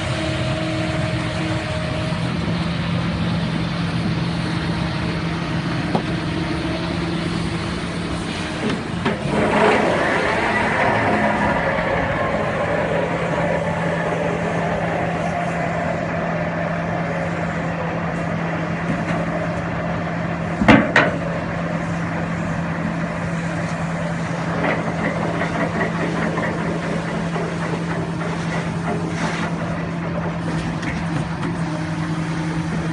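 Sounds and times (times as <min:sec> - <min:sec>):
vibratory pile driver humming: 0:00.0 - 0:32.9.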